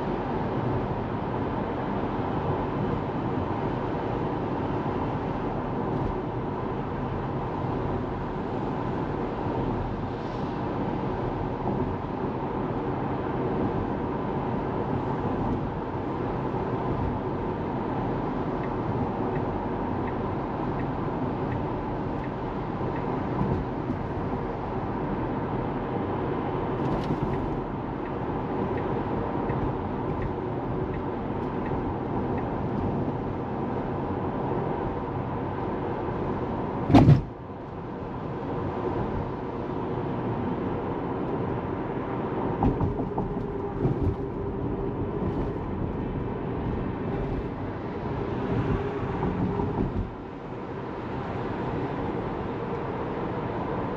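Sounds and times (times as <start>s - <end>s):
car road and tyre noise: 0.0s - 53.9s.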